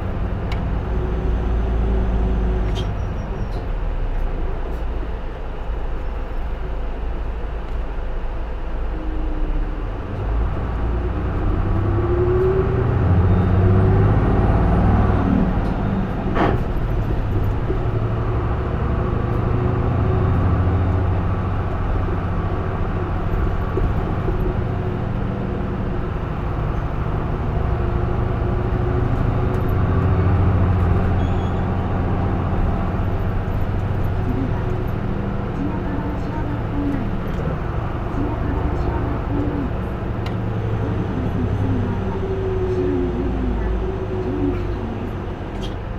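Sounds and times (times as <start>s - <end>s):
bus diesel engine accelerating: 0.0s - 45.9s.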